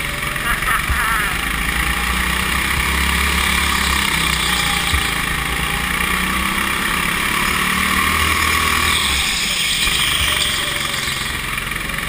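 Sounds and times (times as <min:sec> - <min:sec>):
go-kart engine running: 0:00.0 - 0:12.0
track noise: 0:00.0 - 0:12.0.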